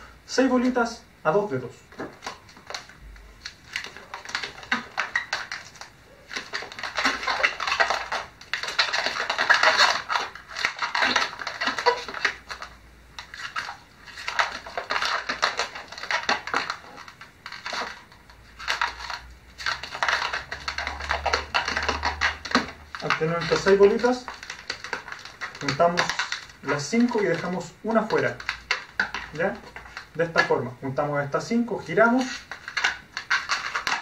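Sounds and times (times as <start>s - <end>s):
balloon squeaking and rubbing: 2.0s - 34.0s.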